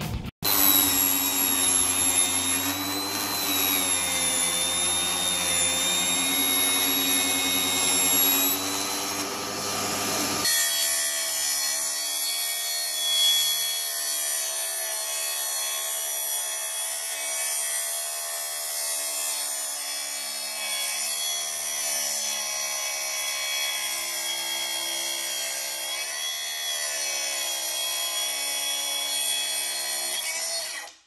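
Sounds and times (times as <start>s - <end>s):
track saw cutting plywood: 0.4s - 31.0s.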